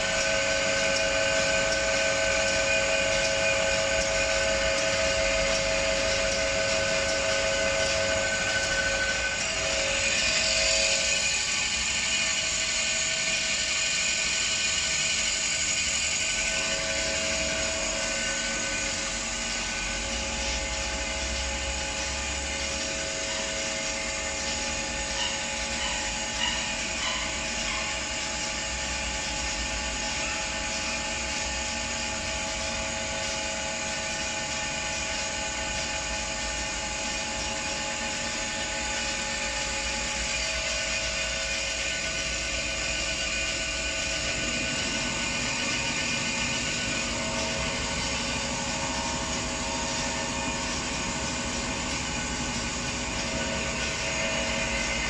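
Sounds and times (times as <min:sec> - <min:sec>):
machine whine: 0:00.0 - 0:55.0.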